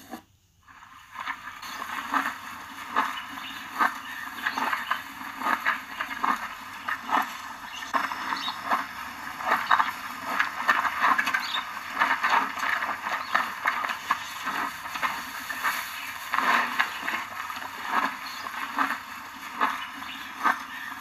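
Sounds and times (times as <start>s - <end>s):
rhinoceros chewing: 0.7s - 21.0s.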